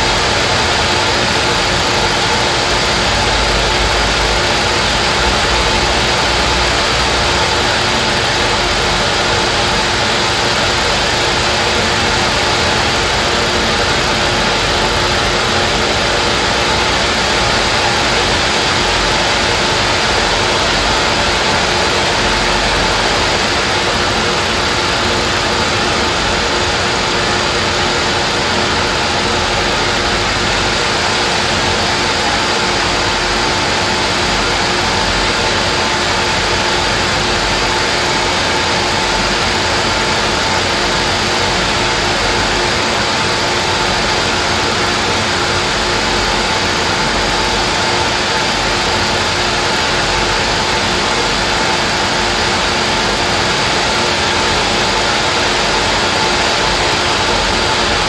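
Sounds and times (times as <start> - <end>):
small engine whirring: 0.0 - 58.0.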